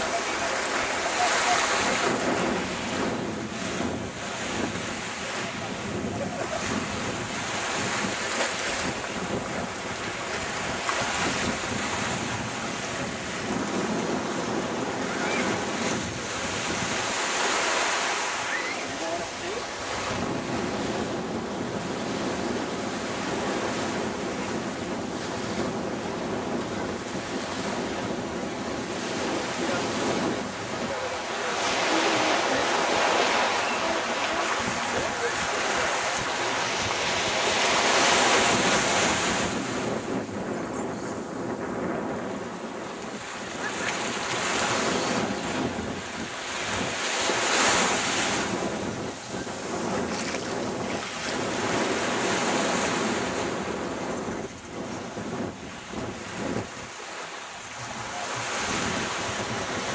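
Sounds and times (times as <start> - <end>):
small waves washing on sand: 0.0 - 59.9
wind buffeting microphone: 0.0 - 59.9.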